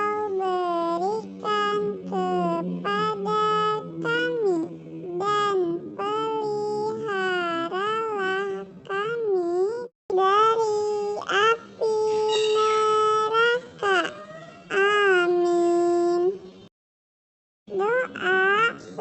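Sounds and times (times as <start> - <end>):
high-pitched cartoon voice chanting: 0.0 - 16.4, 17.7 - 19.0.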